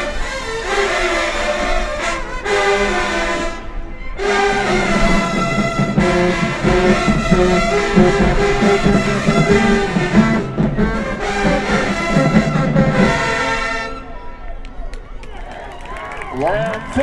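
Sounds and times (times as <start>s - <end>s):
marching band playing: 0.0s - 14.2s
loud low brass: 0.0s - 14.3s.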